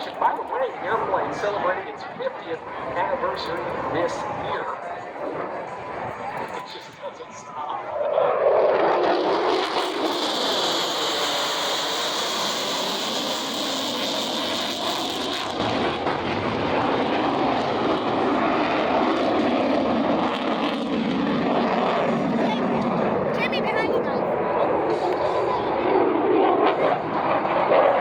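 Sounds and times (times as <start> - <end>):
jet engine passing: 0.0 - 28.0.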